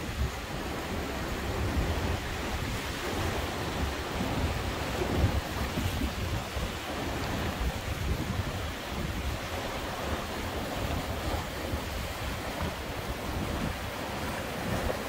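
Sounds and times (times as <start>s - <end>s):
sea swell washing against rocks: 0.0s - 15.0s
wind buffeting microphone: 0.0s - 15.0s.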